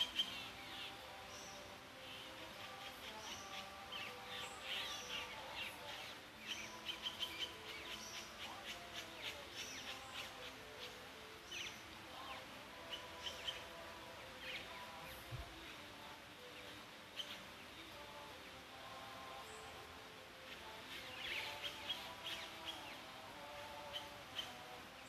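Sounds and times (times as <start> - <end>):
faint steady background tone: 0.0 - 25.0
songbirds chirping: 0.0 - 25.0.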